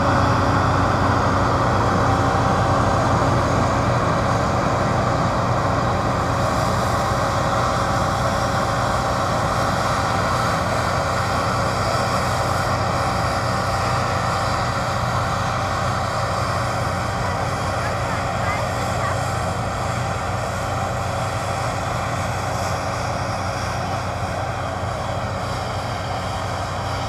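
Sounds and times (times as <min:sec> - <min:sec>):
combine harvester drone: 0:00.0 - 0:27.0.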